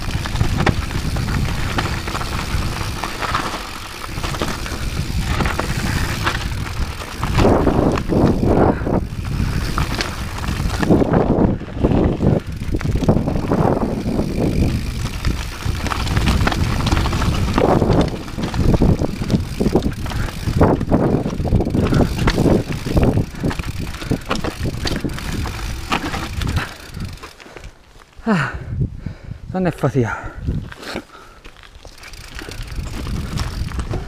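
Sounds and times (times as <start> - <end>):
bike rattling and knocking: 0.0 - 27.7, 31.1 - 34.0
tyres crunching over stones: 0.0 - 28.2, 30.6 - 34.0.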